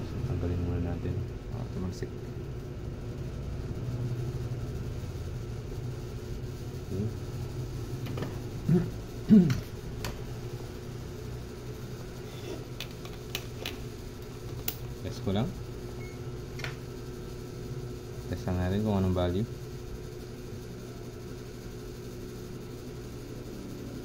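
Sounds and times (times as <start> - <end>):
fan motor humming: 0.0 - 24.0.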